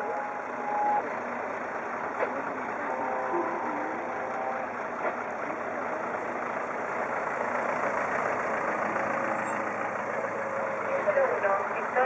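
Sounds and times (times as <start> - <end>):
van engine and tyre noise passing: 0.0 - 12.0.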